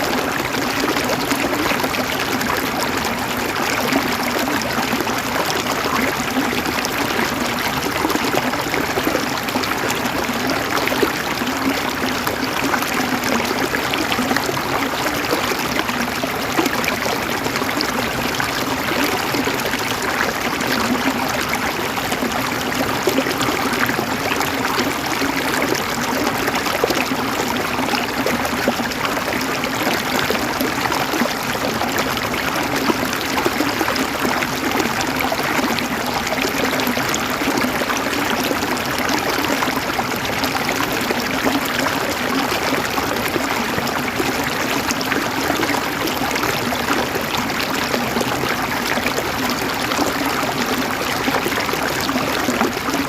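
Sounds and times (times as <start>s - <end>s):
river water flowing over stones: 0.0s - 53.0s.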